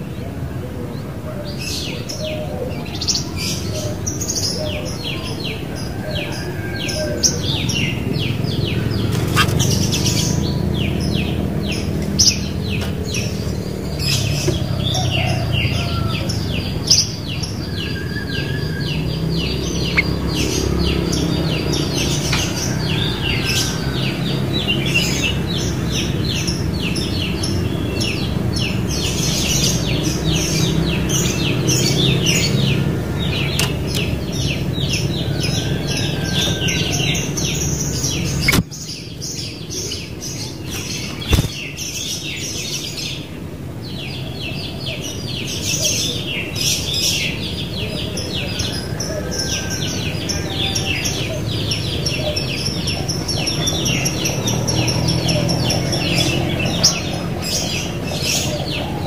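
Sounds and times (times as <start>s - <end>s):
bulbuls chirping: 0.0s - 59.0s.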